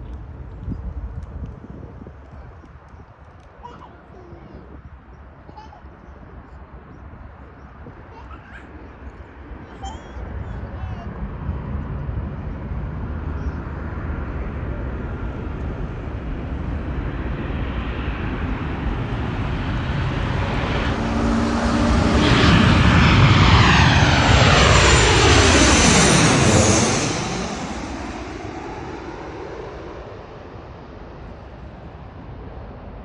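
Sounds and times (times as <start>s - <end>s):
jet engines on landing approach: 6.1s - 33.0s.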